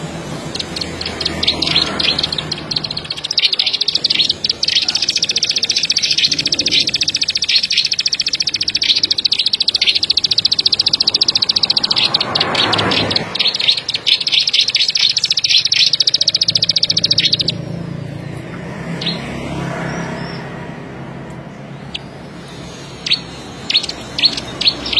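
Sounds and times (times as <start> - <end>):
songbird high clicking trill: 0.3 - 17.9, 19.0 - 19.3, 21.8 - 24.9.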